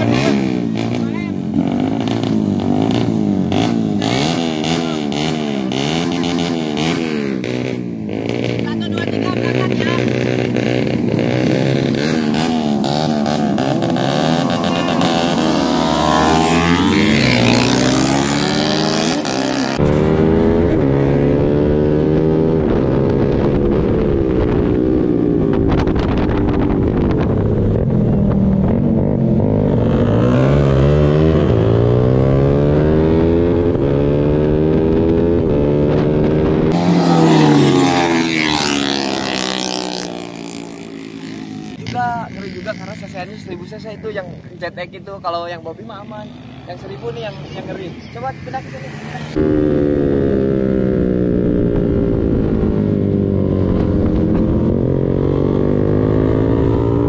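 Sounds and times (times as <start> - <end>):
motorcycle engines accelerating: 0.0 - 57.0.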